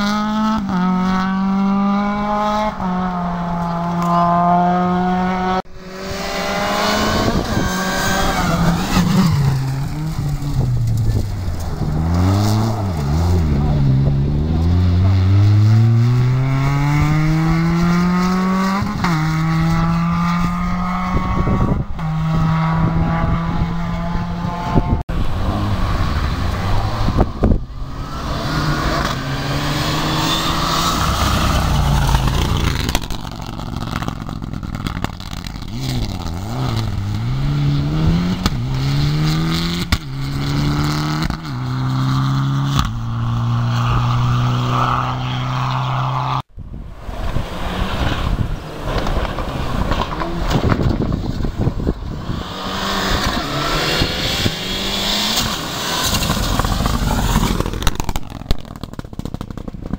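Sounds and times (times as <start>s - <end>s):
rally car engines at full throttle: 0.0s - 59.9s
car passing with gravel noise: 0.8s - 21.4s, 24.4s - 59.9s.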